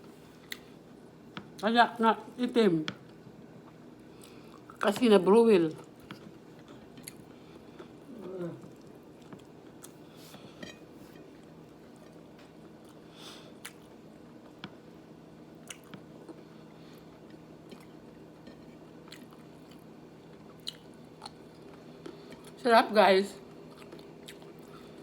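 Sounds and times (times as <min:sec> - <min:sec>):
person chewing food: 0:00.2 - 0:01.6, 0:03.6 - 0:04.8, 0:05.8 - 0:14.8, 0:15.6 - 0:22.6, 0:23.5 - 0:25.0.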